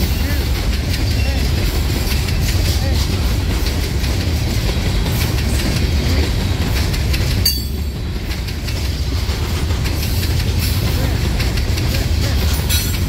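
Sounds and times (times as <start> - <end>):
train wheels rolling on track: 0.0 - 13.0.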